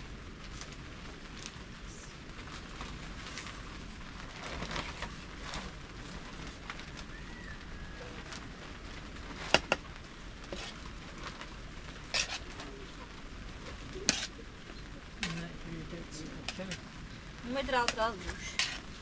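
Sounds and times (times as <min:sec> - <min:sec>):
rain hissing: 0:00.0 - 0:19.0
wood fire crackling: 0:00.0 - 0:19.0.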